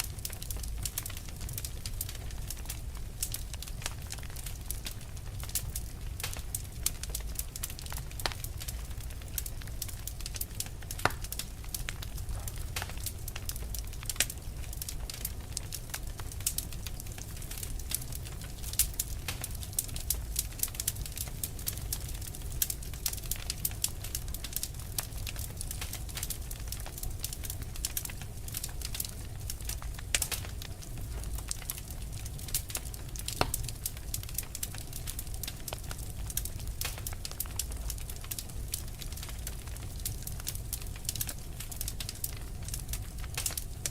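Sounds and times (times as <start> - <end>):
fire crackling and popping: 0.0 - 43.9
low fire rumble: 0.0 - 43.9.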